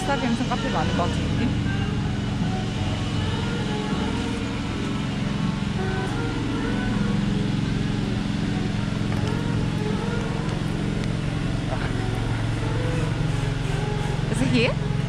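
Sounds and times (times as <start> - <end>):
faint music: 0.0 - 15.0
vehicle engine humming: 0.0 - 15.0.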